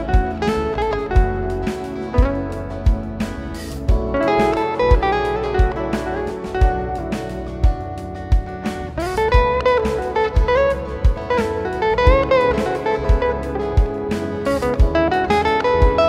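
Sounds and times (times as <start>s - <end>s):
instrumental music with sliding melody: 0.0s - 16.0s.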